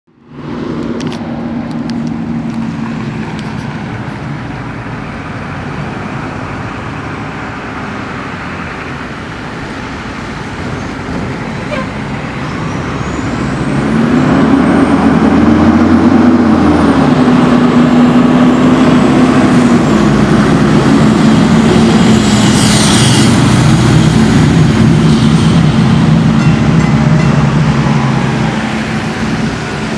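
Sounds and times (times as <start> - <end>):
diesel truck engine approaching: 0.1 - 29.9
tyres on wet pavement: 0.3 - 29.9.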